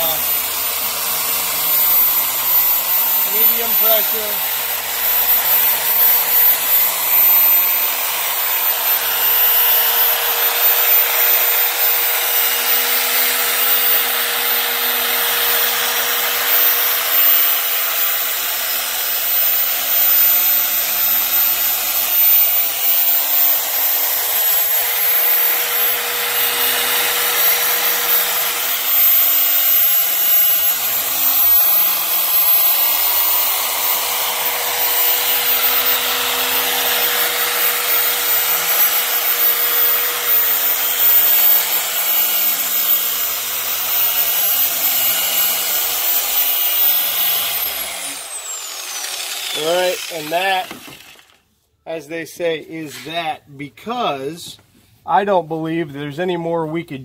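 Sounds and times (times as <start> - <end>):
machine polisher motor whine: 0.0 - 51.4.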